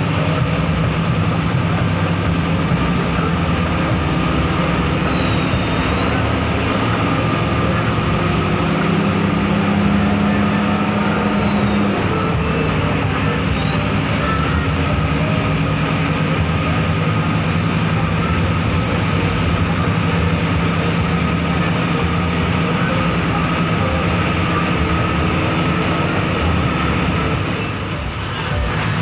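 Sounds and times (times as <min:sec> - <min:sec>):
bus engine running: 0:00.0 - 0:29.0
road and tyre noise: 0:00.0 - 0:29.0
steady whine: 0:00.0 - 0:29.0.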